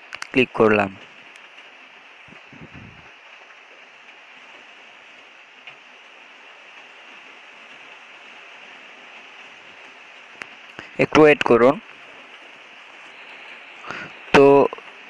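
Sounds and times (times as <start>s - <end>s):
low recording hiss: 0.0s - 15.0s.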